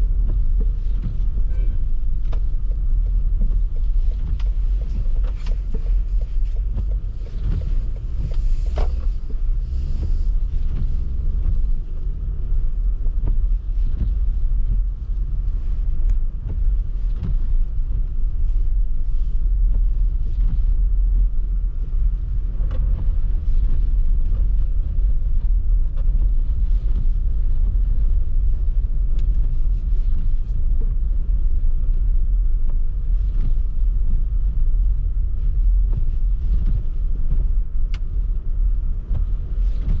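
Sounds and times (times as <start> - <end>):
engine and tyres rumbling: 0.0 - 40.0.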